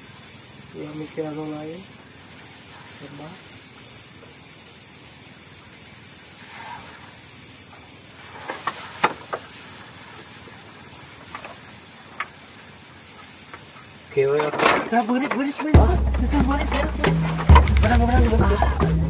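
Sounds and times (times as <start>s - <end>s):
faint hiss of night air: 0.0s - 19.0s.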